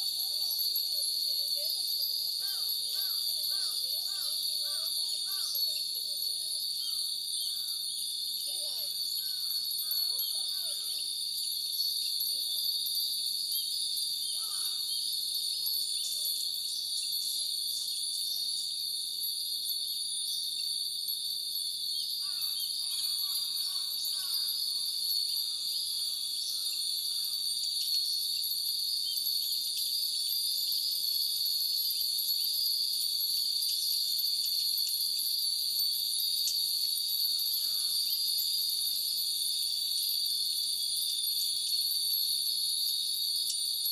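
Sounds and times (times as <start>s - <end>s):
high-pitched insect drone: 0.0s - 43.9s
wind bells tinkling: 0.0s - 43.9s.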